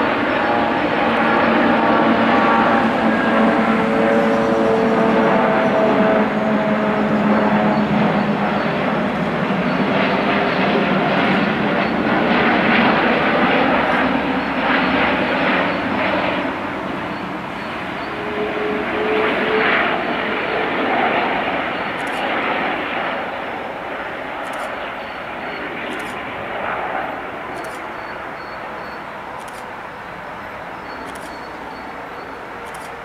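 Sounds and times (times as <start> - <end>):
jet airliner passing overhead: 0.0 - 33.0.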